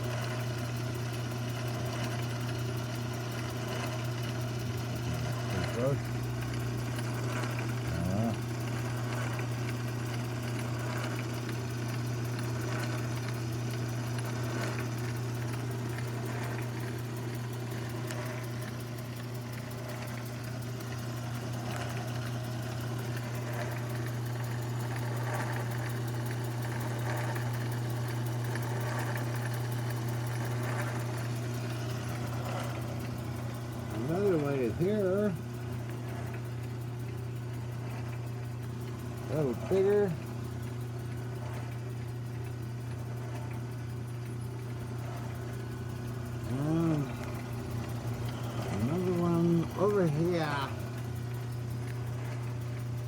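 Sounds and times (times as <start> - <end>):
lathe motor humming: 0.0 - 53.0.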